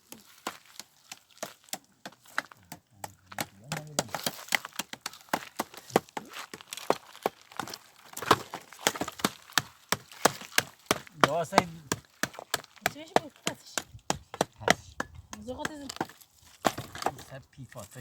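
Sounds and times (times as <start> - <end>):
dry wheat stalks snapping: 0.0 - 17.1.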